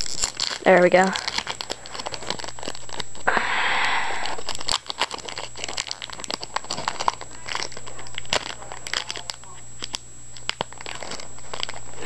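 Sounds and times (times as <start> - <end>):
foil ripping: 0.0 - 3.3, 4.2 - 12.0
foil wrapper crinkling: 0.0 - 3.3, 4.2 - 12.0.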